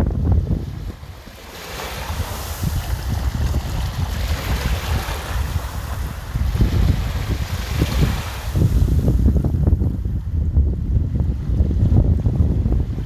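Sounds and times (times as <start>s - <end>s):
seawater washing and surging: 0.0s - 13.0s
wind buffeting microphone: 0.0s - 13.0s.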